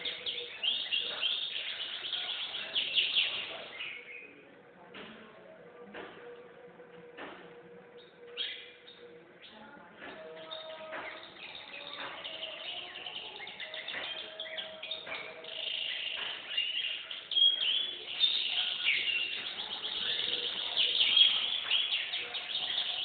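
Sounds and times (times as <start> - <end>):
canary singing trills: 0.0 - 4.6, 7.9 - 23.0.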